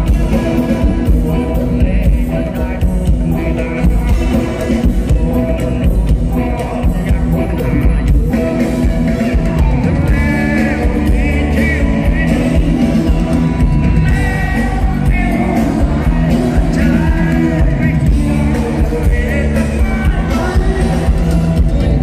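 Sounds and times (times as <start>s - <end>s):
crowd shouting and singing along: 0.0s - 22.0s
person singing lead vocal: 0.0s - 22.0s
rock band playing: 0.0s - 22.0s.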